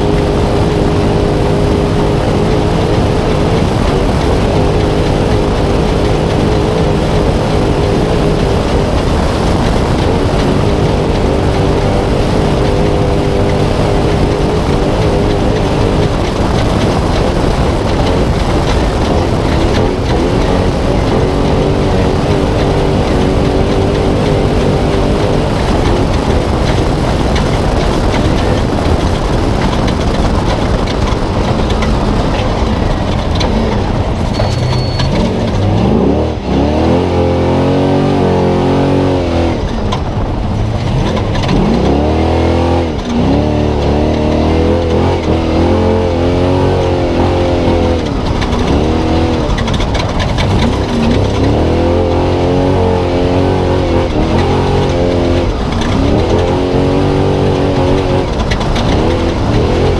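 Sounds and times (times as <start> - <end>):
truck engine revving: 0.0 - 59.9
tyre chassis and wind roar: 0.0 - 59.9.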